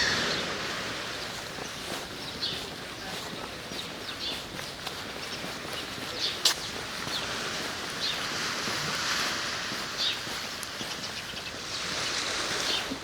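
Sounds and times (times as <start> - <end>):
birds chirping: 0.0 - 8.3, 9.9 - 12.9.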